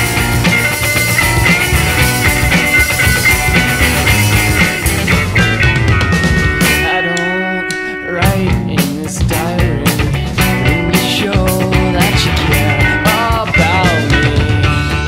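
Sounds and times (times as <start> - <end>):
drum beat: 0.0 - 7.1, 8.2 - 15.0
electric guitar: 0.0 - 15.0
rock music: 0.0 - 15.0.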